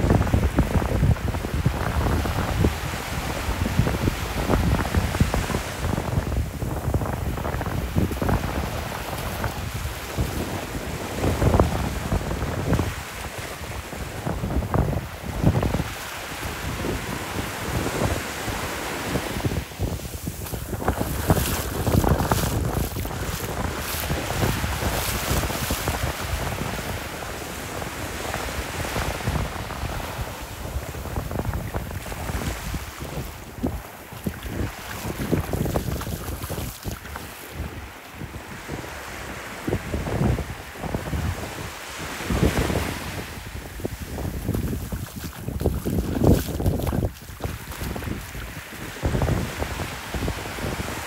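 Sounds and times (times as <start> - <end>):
small waves washing on sand: 0.0 - 51.0
wind buffeting microphone: 0.0 - 51.0.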